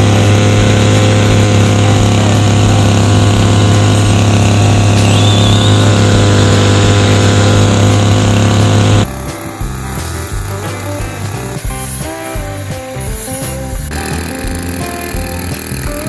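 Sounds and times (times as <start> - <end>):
brush cutter engine running: 0.0 - 16.0.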